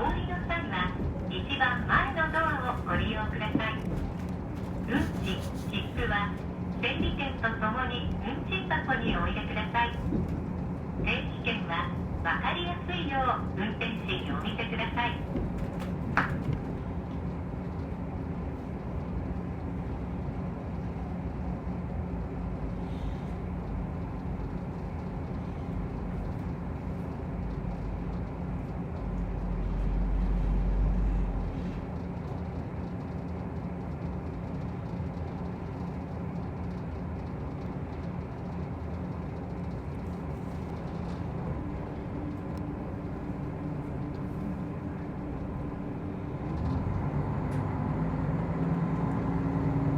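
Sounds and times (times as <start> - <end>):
diesel railcar engine drone: 0.0 - 49.9
rail and wheel noise: 0.0 - 49.9.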